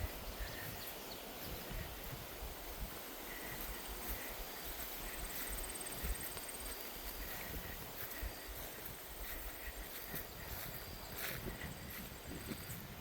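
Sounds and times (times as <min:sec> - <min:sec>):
footsteps on woodland trail: 0:00.0 - 0:13.0
wind blowing through trees: 0:00.0 - 0:13.0.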